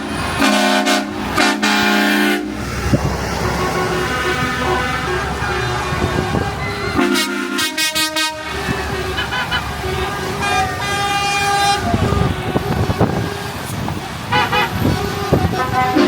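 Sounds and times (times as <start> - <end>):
passing lorry engines: 0.0 - 16.0
truck horns blasting: 0.0 - 16.0.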